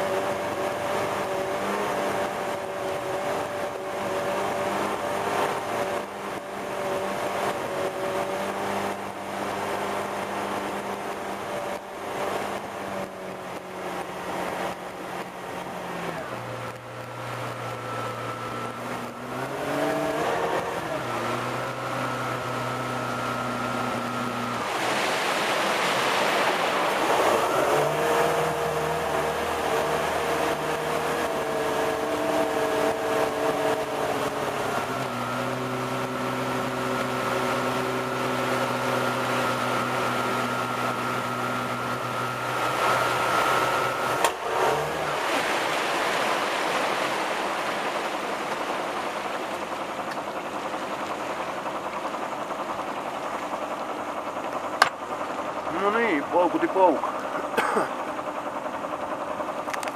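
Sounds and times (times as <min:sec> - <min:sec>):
boat engine running: 0:00.0 - 0:59.9
wake water rushing: 0:00.0 - 0:59.9
wind: 0:00.0 - 0:59.9.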